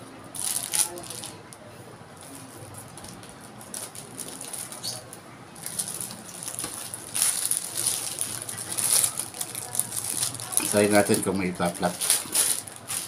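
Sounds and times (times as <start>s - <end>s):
plastic film rustling: 0.3s - 1.6s, 2.2s - 13.0s.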